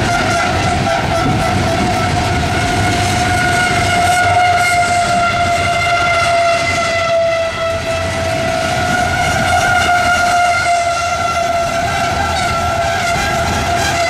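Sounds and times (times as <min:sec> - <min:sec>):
locomotive horn blast: 0:00.0 - 0:14.0
train rumbling past: 0:00.0 - 0:14.0.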